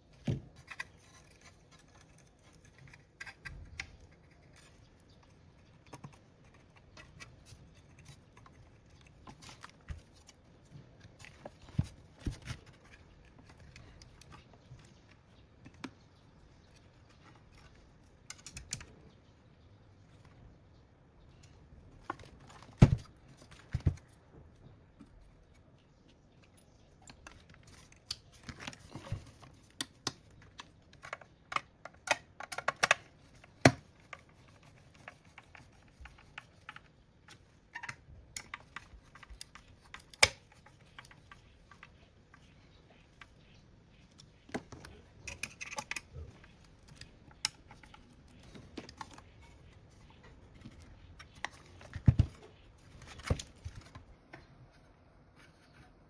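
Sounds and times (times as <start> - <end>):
small parts and tools clicking: 0.1 - 19.1, 25.0 - 54.5.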